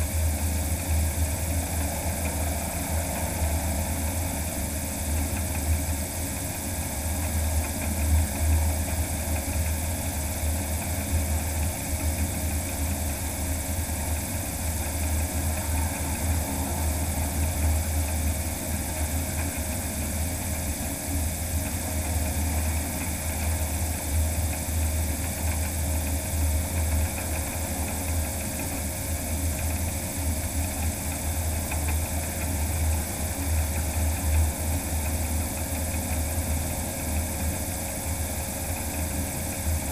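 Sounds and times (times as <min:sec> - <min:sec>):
propeller wash and wind rumble: 0:00.0 - 0:39.9.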